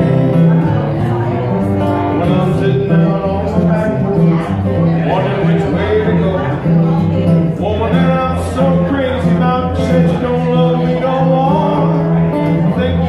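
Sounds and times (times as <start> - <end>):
acoustic guitar: 0.0 - 13.0
man singing: 0.0 - 13.0.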